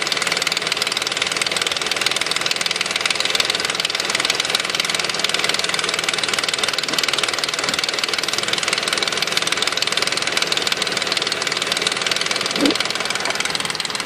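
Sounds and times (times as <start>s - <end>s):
car engine idling with rattle: 0.0s - 14.0s.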